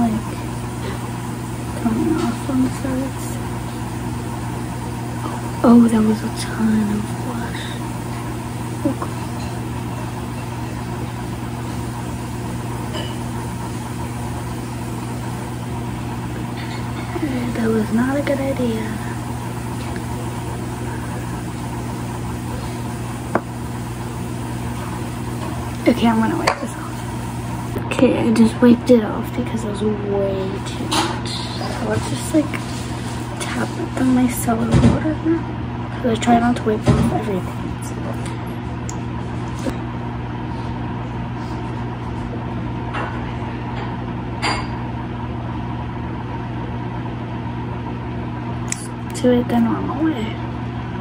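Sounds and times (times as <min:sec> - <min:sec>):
low machine hum: 0:00.0 - 0:51.0.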